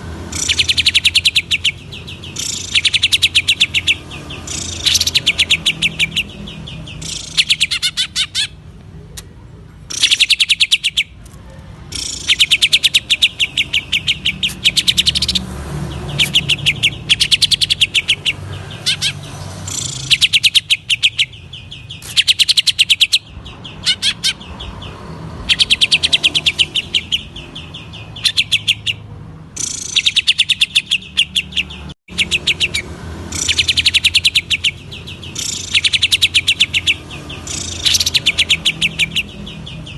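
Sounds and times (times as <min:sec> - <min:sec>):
bird chattering song: 0:00.1 - 0:39.9.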